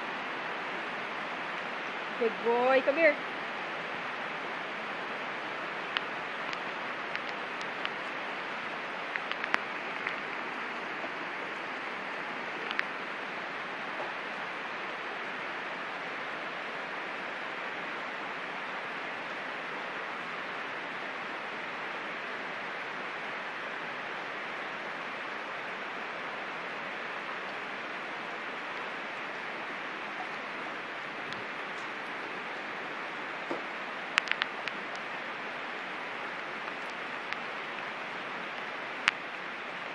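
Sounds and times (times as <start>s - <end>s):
heavy rain pouring: 0.0s - 39.9s
raindrops ticking nearby: 0.0s - 39.9s.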